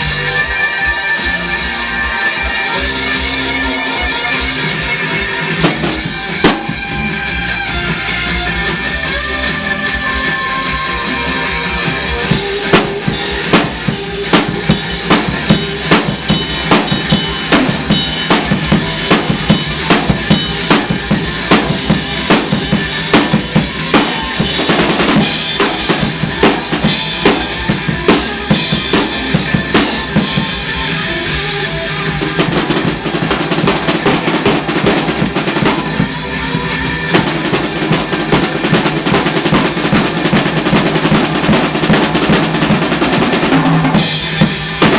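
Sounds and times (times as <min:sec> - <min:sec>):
full-band rock music: 0:00.0 - 0:44.9
rock drum kit played hard: 0:00.0 - 0:44.9.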